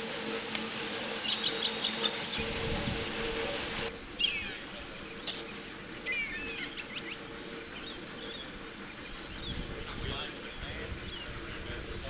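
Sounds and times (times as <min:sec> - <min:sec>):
birds chirping: 0:00.0 - 0:12.0
low hum and rumble: 0:00.0 - 0:12.0.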